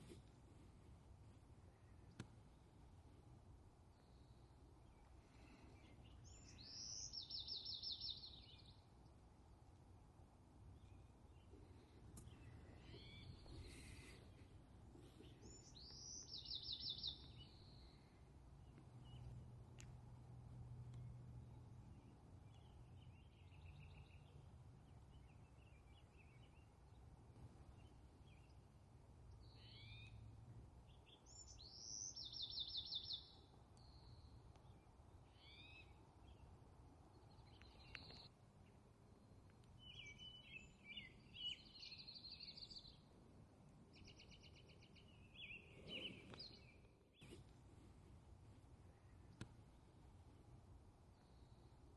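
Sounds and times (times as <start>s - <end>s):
faint low rumble: 0.0s - 51.9s
songbirds singing: 0.0s - 51.9s.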